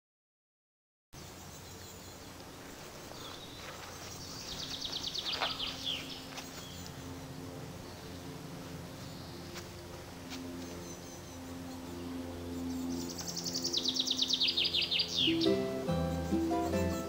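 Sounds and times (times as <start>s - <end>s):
songbird trill: 1.2s - 9.7s, 10.4s - 17.0s
faint outdoor hiss: 1.2s - 17.0s.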